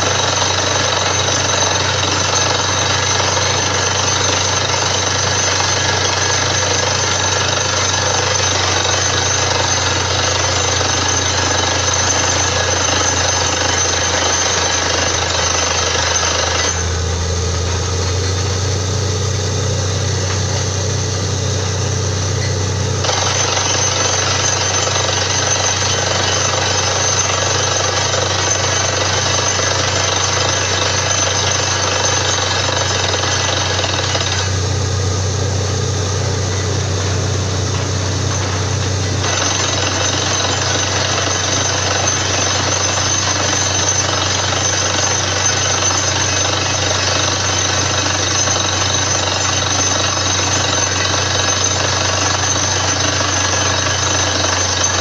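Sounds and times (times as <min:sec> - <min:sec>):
low engine drone: 0:00.0 - 0:55.0
percussive drilling rig racket: 0:00.0 - 0:55.0.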